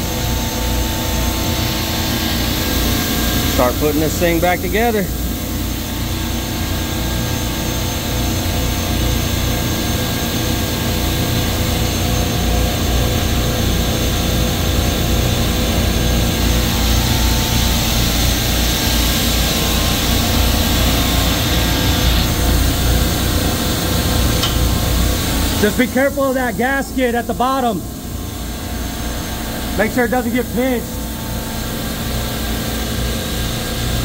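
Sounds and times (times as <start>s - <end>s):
constant hums: 0.0s - 34.0s
refrigeration compressor drone: 0.0s - 34.0s.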